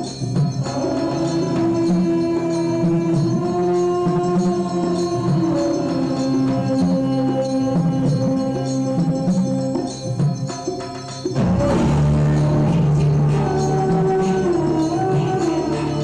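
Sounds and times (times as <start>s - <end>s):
music with long held notes: 0.0s - 16.0s
steady percussion beat: 0.0s - 16.0s.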